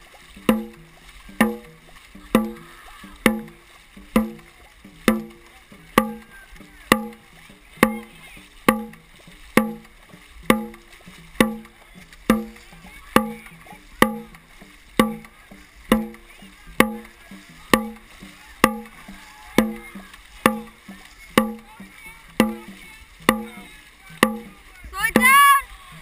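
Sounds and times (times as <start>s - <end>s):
drum beating steadily: 0.0s - 26.0s
paddles splashing: 0.0s - 26.0s
water rushing: 0.0s - 26.0s.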